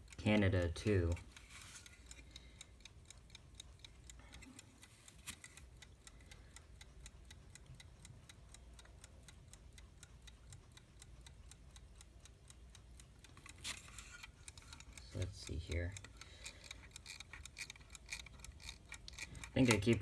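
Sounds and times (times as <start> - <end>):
alarm clock ticking: 0.0 - 20.0.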